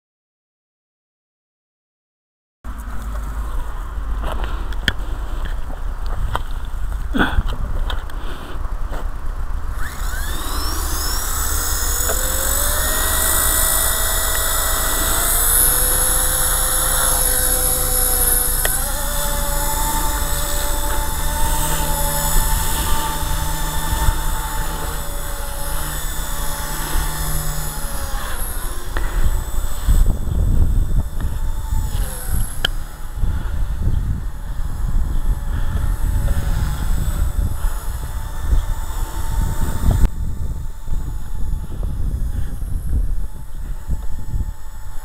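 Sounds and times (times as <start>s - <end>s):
rc helicopter whine: 2.7s - 45.0s.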